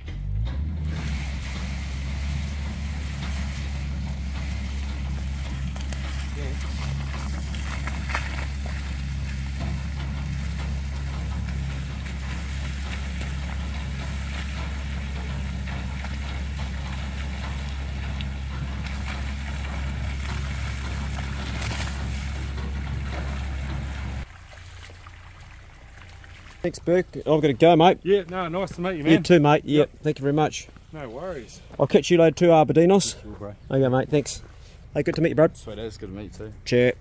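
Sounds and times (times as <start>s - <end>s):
pump engine running: 0.0s - 30.0s.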